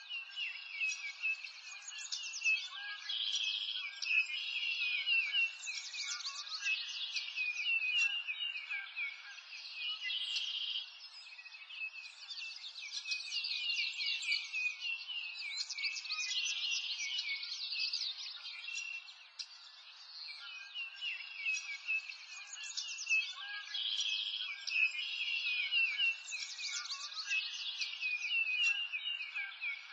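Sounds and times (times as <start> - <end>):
small birds chirping and singing: 0.0 - 29.9.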